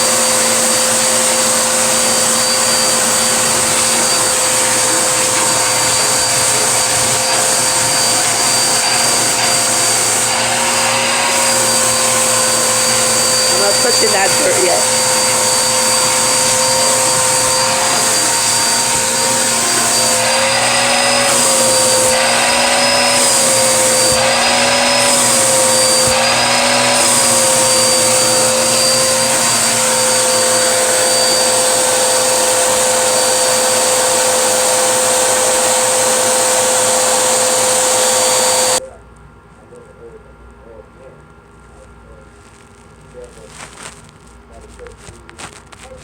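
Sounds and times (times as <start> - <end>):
vacuum cleaner running: 0.0 - 38.8.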